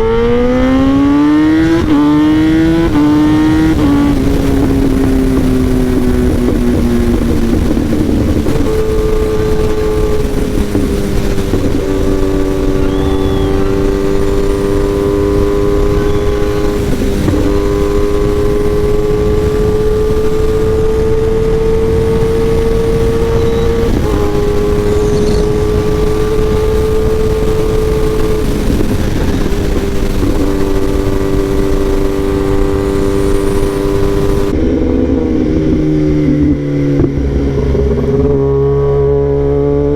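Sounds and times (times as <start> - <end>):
gear change: 0.0 - 39.9
motorcycle engine revving: 0.0 - 39.9
wind and road rush: 0.0 - 39.9.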